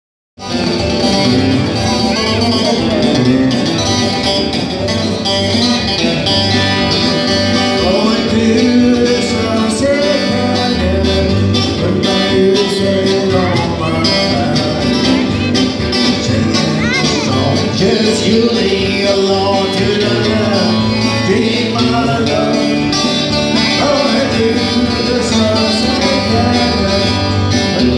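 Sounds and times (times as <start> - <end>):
electric guitar: 0.4 - 27.9
man singing: 0.8 - 3.9, 7.4 - 27.9.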